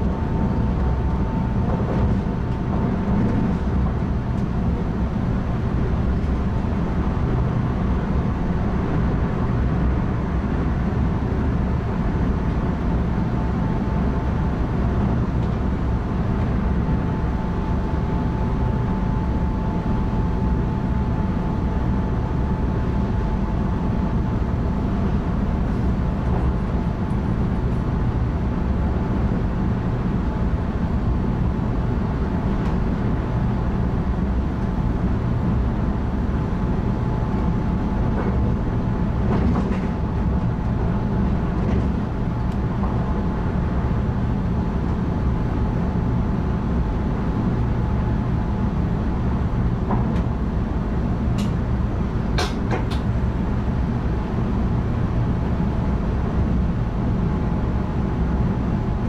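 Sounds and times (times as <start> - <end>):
train rumbling at speed: 0.0 - 59.0.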